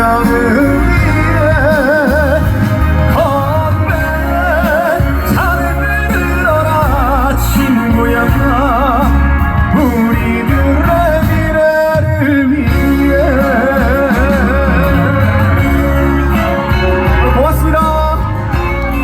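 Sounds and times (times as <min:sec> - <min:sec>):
live band playing a song: 0:00.0 - 0:19.0.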